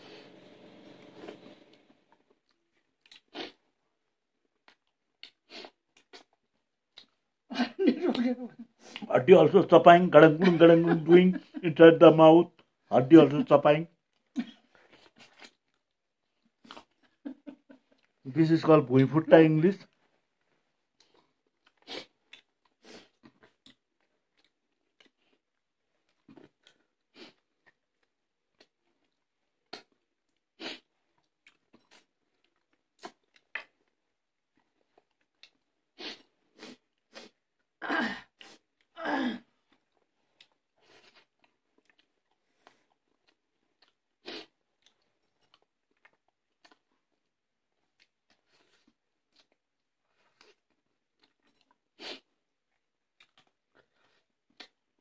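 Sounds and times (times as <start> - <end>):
chewing and crunching food: 1.2 - 7.5, 14.0 - 18.3, 19.8 - 55.0.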